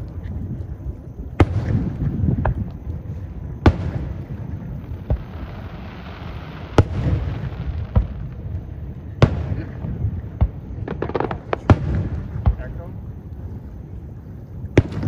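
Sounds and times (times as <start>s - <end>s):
small fireworks pops: 0.0s - 15.0s
fireworks bangs: 1.2s - 13.1s, 14.7s - 15.0s.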